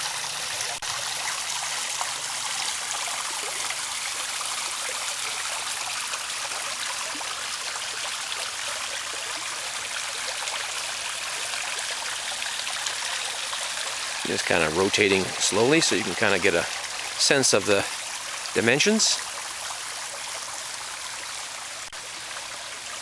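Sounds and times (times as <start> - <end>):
waterfall splashing into pond: 0.0 - 23.0.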